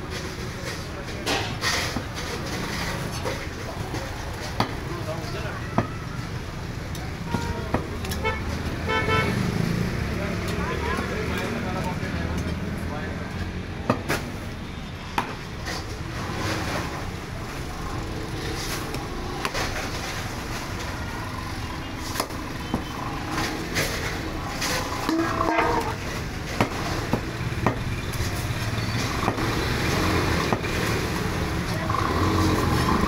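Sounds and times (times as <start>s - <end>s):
market din: 0.0s - 33.0s
traffic: 0.0s - 33.0s.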